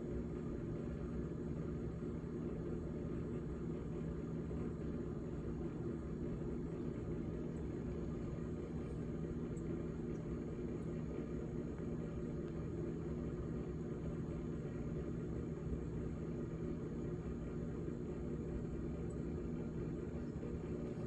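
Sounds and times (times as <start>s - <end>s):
refrigerator humming: 0.0s - 21.0s.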